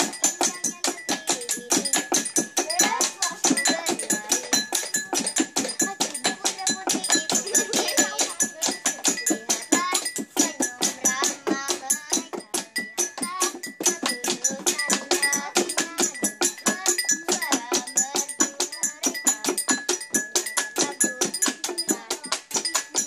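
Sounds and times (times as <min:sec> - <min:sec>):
children singing: 0:00.0 - 0:12.6, 0:13.2 - 0:19.6, 0:20.3 - 0:23.0.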